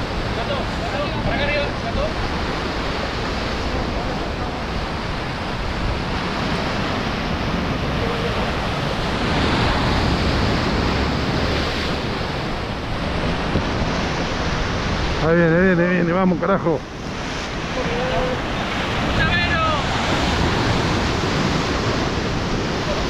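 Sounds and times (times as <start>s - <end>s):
surf washing against rocks: 0.0s - 23.0s
wind on the microphone: 0.0s - 23.0s.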